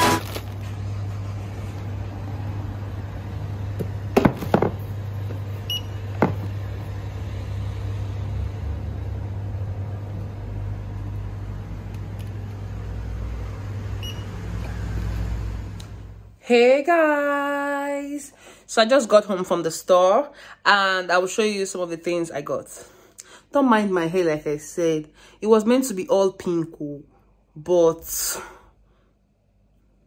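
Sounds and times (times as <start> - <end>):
shop interior hum: 0.0 - 30.0.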